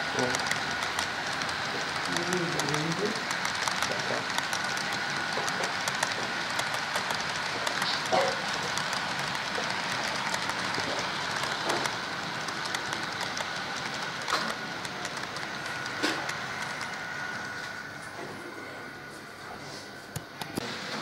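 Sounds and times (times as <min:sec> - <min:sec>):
model train wheels on rails: 0:00.0 - 0:21.0.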